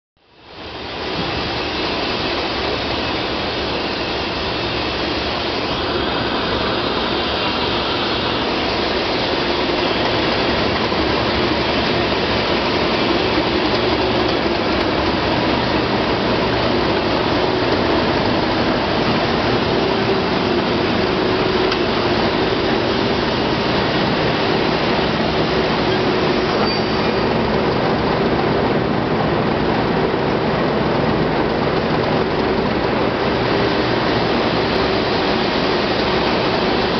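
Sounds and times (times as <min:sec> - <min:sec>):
diesel locomotives running: 0:00.2 - 0:36.9.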